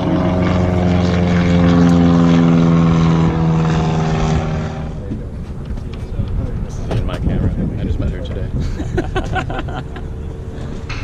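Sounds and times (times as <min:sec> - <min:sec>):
helicopter engine and rotor: 0:00.0 - 0:06.9, 0:08.0 - 0:11.0.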